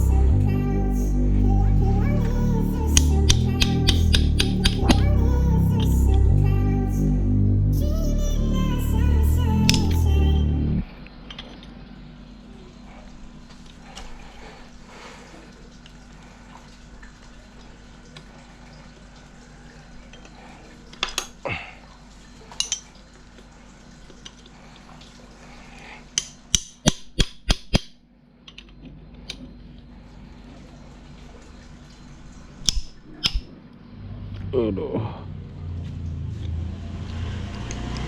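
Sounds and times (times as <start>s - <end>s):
steady low hum: 0.0s - 26.6s, 28.0s - 38.0s.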